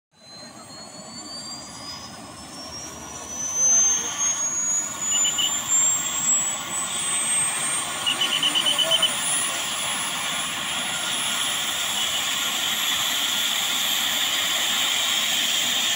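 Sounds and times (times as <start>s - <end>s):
helicopter turbine engine whine: 0.1s - 15.9s
helicopter rotor noise: 0.2s - 15.9s.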